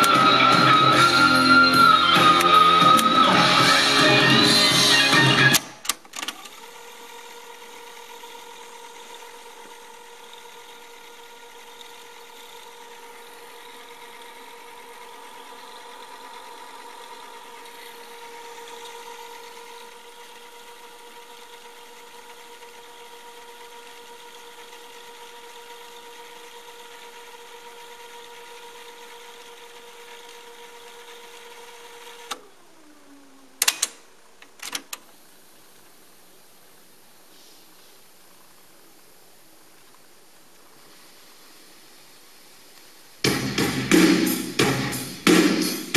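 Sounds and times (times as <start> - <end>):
cassette deck rewinding whine: 0.0 - 45.9.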